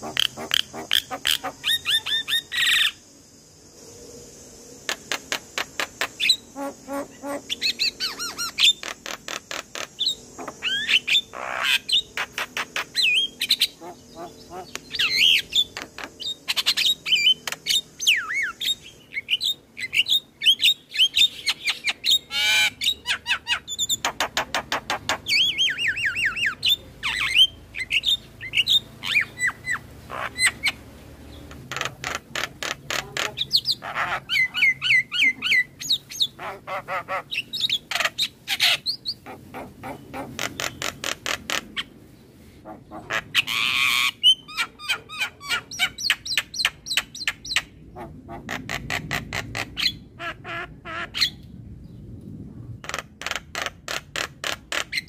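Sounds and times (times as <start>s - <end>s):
bird squawks: 0.0s - 3.0s, 4.9s - 30.8s, 31.5s - 41.9s, 42.6s - 51.4s
myna bird singing: 0.0s - 3.2s, 4.8s - 50.2s.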